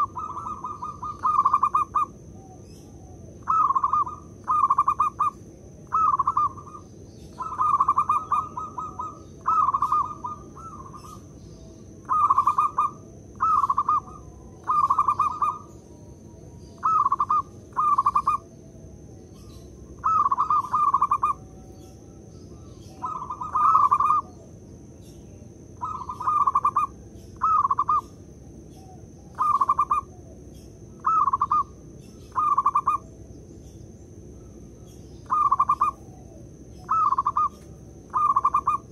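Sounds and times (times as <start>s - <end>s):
dove cooing: 0.0s - 18.6s, 19.3s - 24.6s, 25.7s - 33.2s, 34.4s - 38.9s
faint high-pitched whine: 0.0s - 38.9s.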